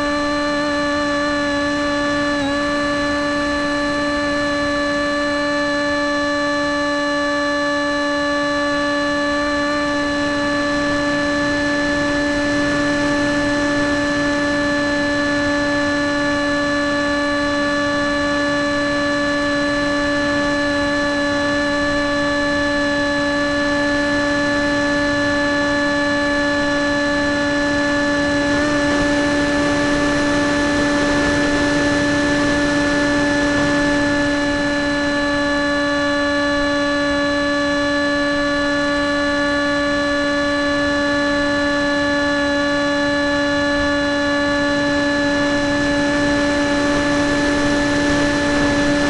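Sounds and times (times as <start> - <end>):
model airplane motor whine: 0.0 - 49.0.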